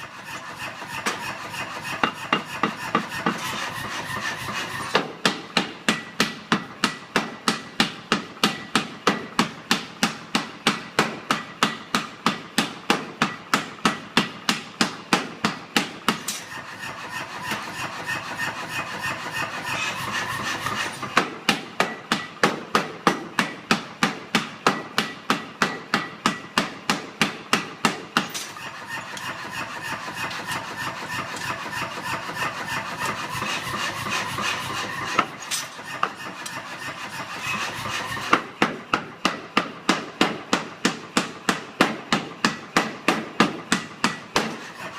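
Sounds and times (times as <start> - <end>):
power hammer striking metal bar: 0.0 - 44.9
steady running machine noise: 0.0 - 44.9.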